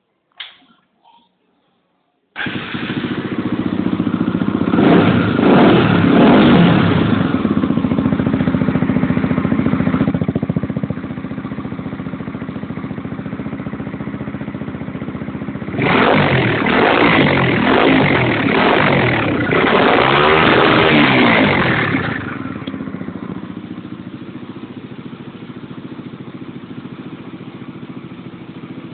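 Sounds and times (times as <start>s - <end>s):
motorcycle engine revving and idling: 2.4s - 28.9s.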